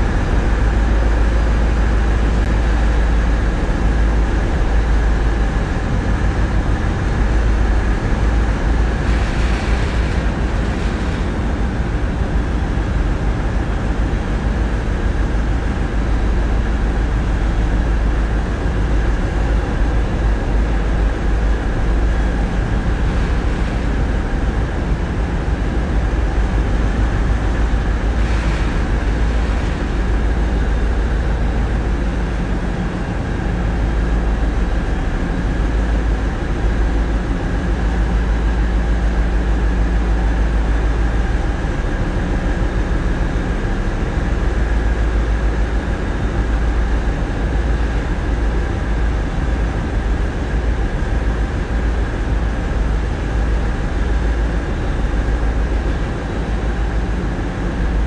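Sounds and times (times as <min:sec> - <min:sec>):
faint steady whine: 0:00.0 - 0:58.0.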